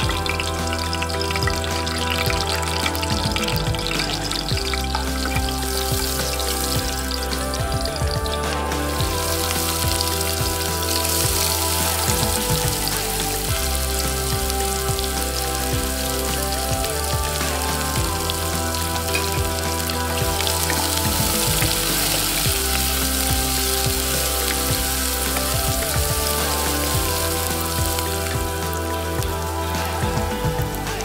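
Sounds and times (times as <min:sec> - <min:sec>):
instrumental background music: 0:00.0 - 0:31.0
vegetables sizzling in hot oil: 0:00.0 - 0:31.0.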